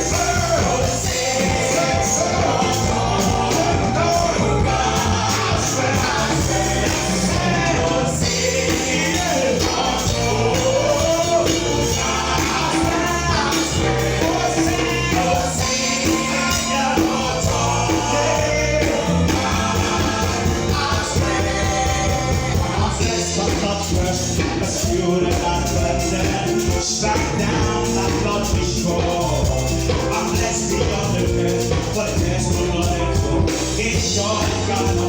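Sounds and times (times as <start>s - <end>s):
band playing a steady beat: 0.0s - 35.0s
choir and congregation singing: 0.0s - 35.0s.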